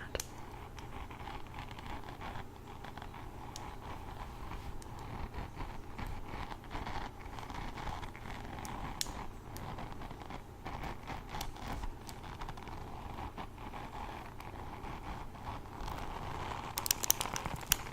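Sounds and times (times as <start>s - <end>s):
hairbrush bristles scratching: 0.4s - 17.9s.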